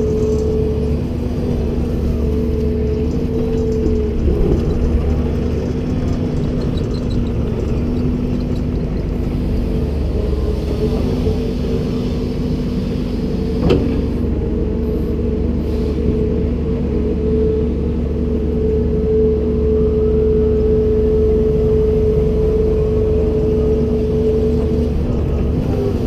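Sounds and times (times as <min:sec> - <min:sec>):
excavator diesel engine humming: 0:00.0 - 0:26.0.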